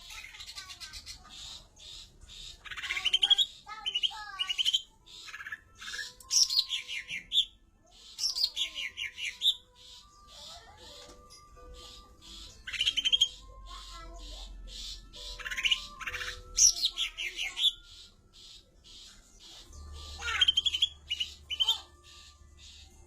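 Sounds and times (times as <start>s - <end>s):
high background chirping: 0.0s - 23.0s
songbird singing: 0.0s - 23.0s.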